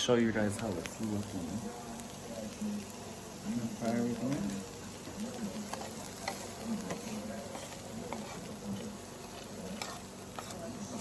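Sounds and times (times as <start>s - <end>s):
garlic and onion sizzling: 0.0s - 11.0s.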